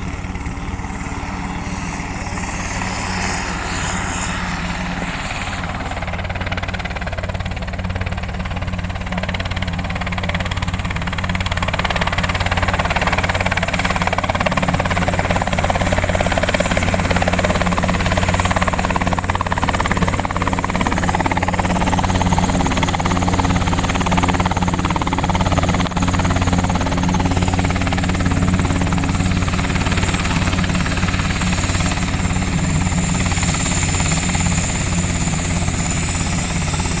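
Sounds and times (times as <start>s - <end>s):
helicopter rotor beat: 0.0s - 37.0s
turbine whine: 0.0s - 37.0s.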